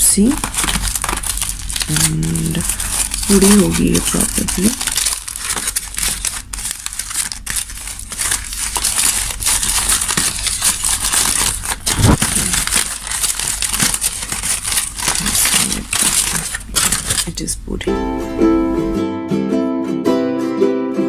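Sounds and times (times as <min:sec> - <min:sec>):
aluminium foil crinkling: 0:00.0 - 0:17.6.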